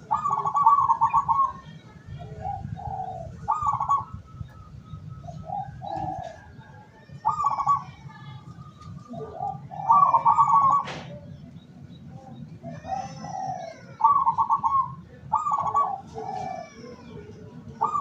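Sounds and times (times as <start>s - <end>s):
dove cooing: 0.0s - 8.1s, 8.8s - 11.5s, 12.6s - 18.0s.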